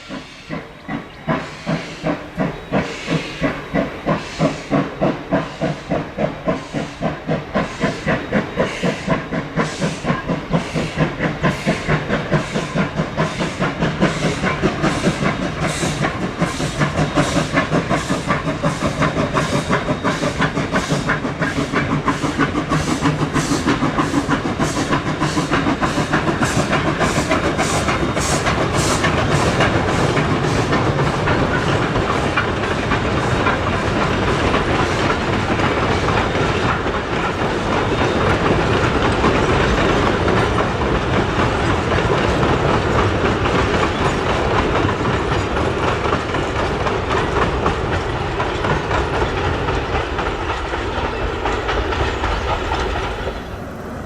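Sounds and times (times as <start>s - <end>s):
steam hiss: 0.0s - 54.0s
steam locomotive exhaust chuffs: 0.0s - 54.0s.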